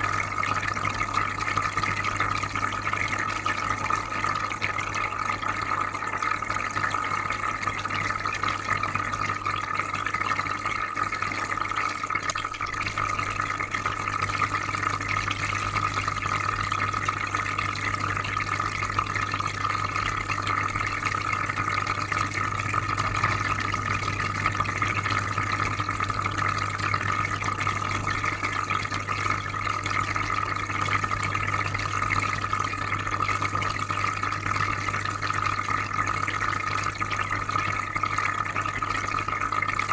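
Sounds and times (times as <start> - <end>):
aquarium filter bubbling water: 0.0 - 39.9.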